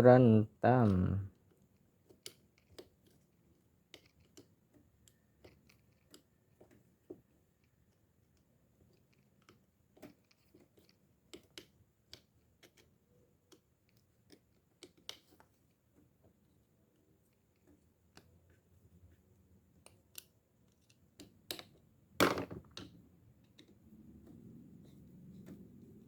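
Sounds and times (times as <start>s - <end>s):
small clicks and taps of tools: 1.4s - 18.6s, 19.7s - 21.9s, 22.6s - 24.4s.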